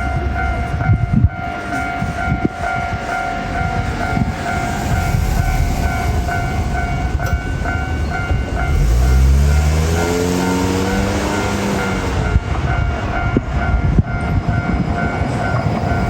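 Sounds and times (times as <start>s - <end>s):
level-crossing bell ringing: 0.0s - 16.0s
tram motor whine rising: 0.0s - 16.0s
tram rumbling over crossing: 0.0s - 16.0s.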